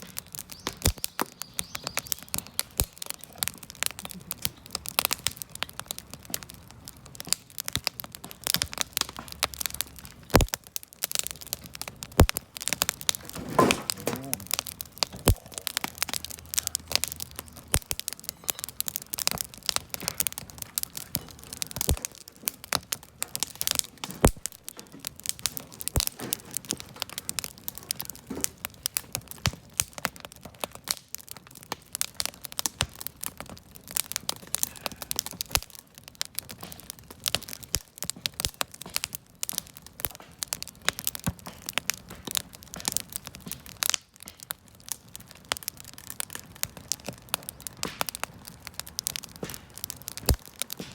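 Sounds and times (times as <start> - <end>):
campfire crackling: 0.0 - 50.9
loud cracks of burning wood: 0.0 - 50.9.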